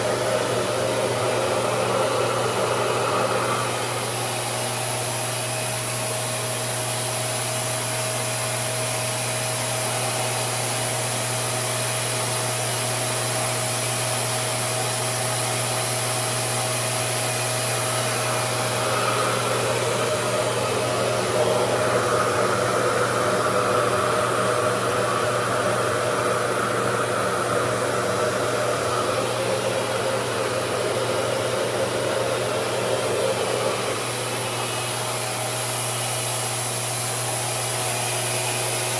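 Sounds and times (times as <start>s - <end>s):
blow dryer running: 0.0s - 38.9s.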